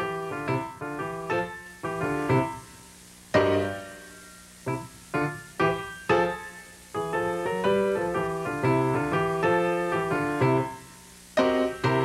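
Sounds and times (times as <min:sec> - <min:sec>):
piano keyboard music: 0:00.0 - 0:12.0.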